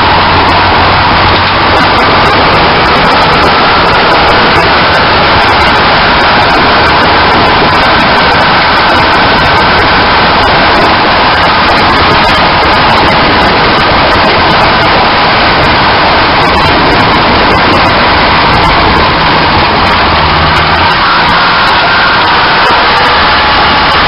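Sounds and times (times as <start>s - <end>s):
road and tyre noise: 0.0s - 24.0s
wind rushing: 0.0s - 24.0s.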